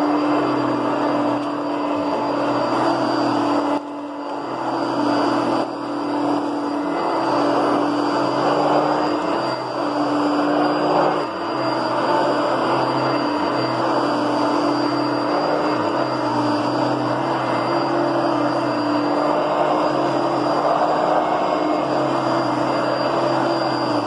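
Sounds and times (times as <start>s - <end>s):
upright vacuum cleaner running: 0.0s - 24.0s.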